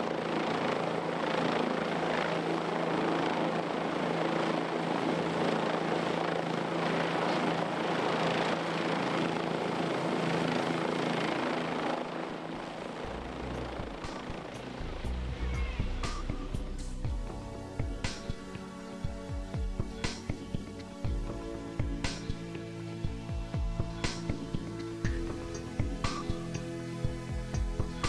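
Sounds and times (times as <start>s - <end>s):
helicopter hovering overhead: 0.0s - 28.0s.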